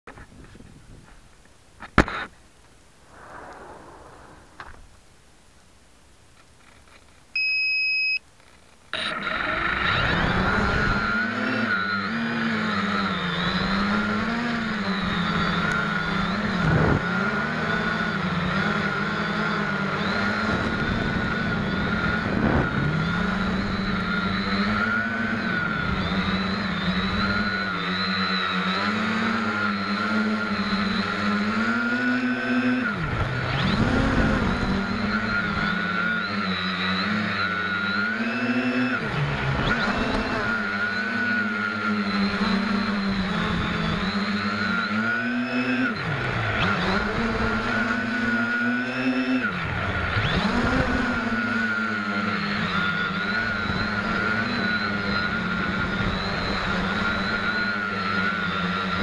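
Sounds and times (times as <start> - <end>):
quadcopter motors buzzing: 0.1 - 2.4, 3.1 - 5.1, 6.4 - 59.0.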